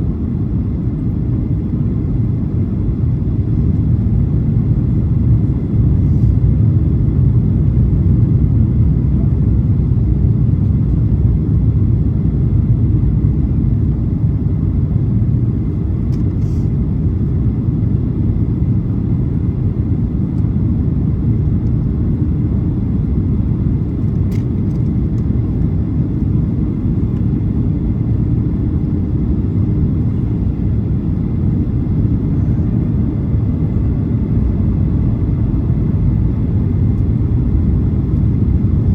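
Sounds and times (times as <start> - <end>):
airplane cabin roar: 0.0 - 38.9.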